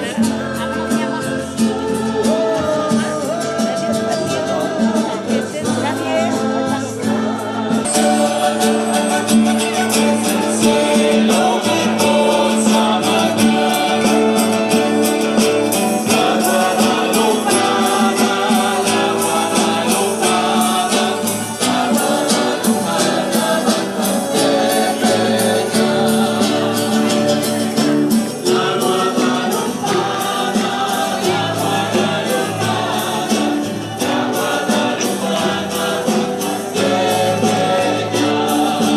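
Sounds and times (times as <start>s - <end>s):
choir singing a hymn: 0.0s - 38.9s
instrumental accompaniment: 0.0s - 38.9s
quick percussion beat: 0.0s - 38.9s.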